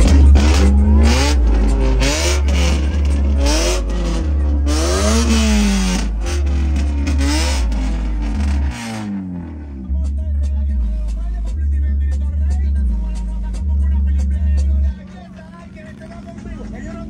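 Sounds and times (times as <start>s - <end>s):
car engine revving: 0.0s - 17.0s
deep bass: 0.0s - 17.0s.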